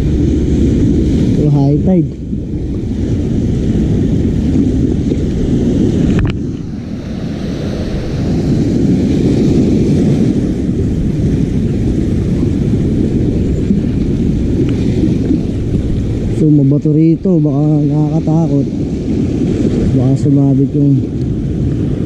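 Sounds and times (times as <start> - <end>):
sea noise: 0.0 - 22.0
wind buffeting microphone: 0.0 - 22.0.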